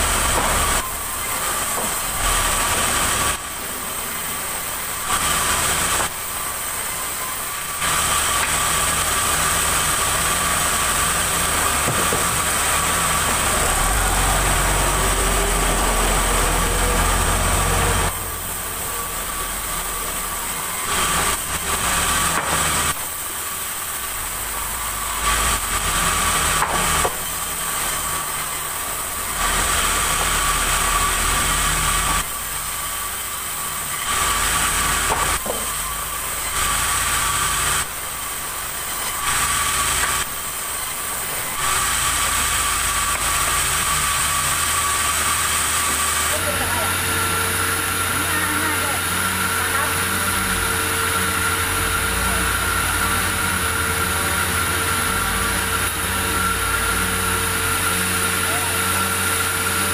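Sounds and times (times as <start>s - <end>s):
low machine hum: 0.0s - 23.3s, 24.0s - 59.9s
sawmill saw whining: 0.0s - 59.9s.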